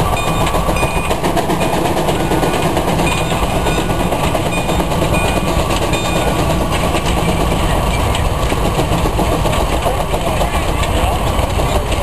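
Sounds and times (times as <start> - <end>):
steam engine exhaust chuffing: 0.0 - 12.0.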